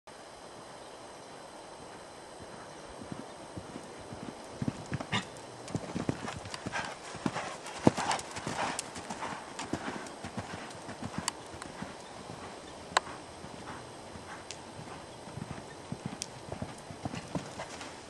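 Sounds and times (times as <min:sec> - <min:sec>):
horse hoofbeats on sand: 0:01.9 - 0:18.0.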